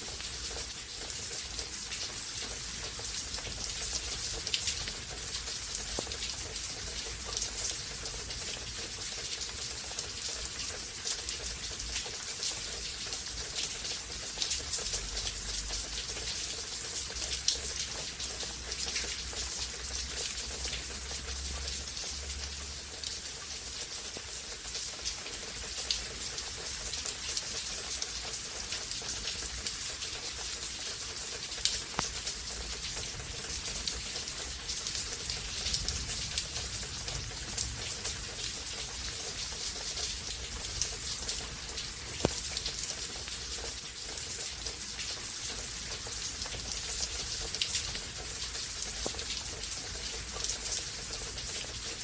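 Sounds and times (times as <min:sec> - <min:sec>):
raindrop ticks: 0:00.1 - 0:52.0.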